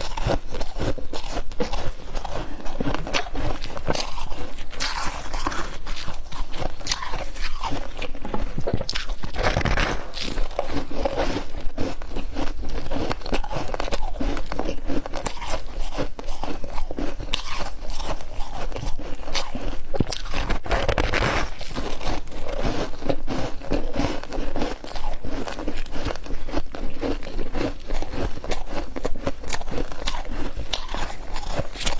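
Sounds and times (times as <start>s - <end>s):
chewing crunchy frost: 0.0s - 31.9s.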